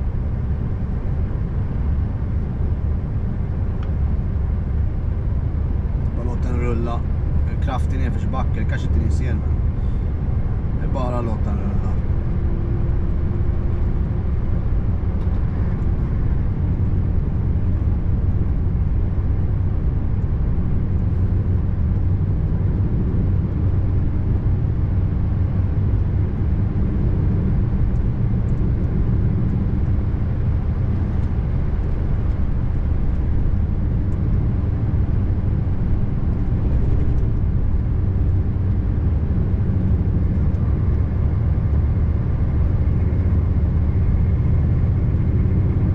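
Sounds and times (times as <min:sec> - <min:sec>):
truck engine droning: 0:00.0 - 0:45.9.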